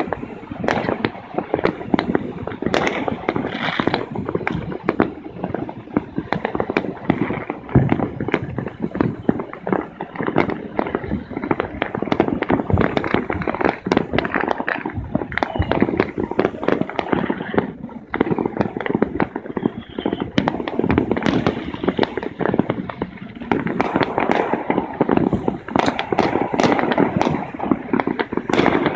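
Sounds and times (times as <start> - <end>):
fireworks bangs and crackling: 0.0 - 28.9.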